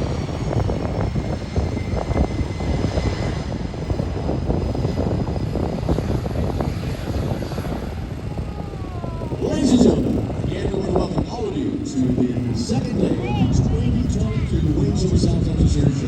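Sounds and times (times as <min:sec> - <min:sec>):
aircraft engine rumbling: 0:00.0 - 0:16.0
high engine whine: 0:00.0 - 0:16.0.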